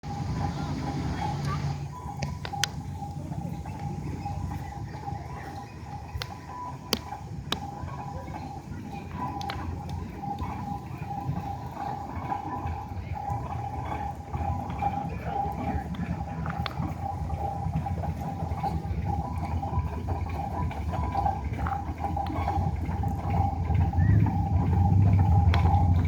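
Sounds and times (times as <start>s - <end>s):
steam traction engine running: 0.0s - 26.0s.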